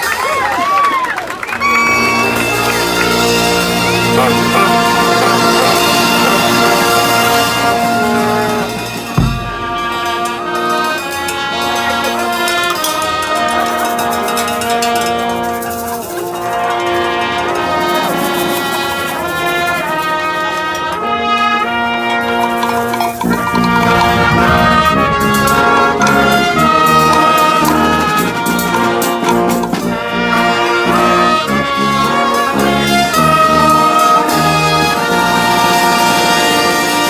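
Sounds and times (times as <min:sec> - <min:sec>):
marching band playing: 0:01.6 - 0:37.0.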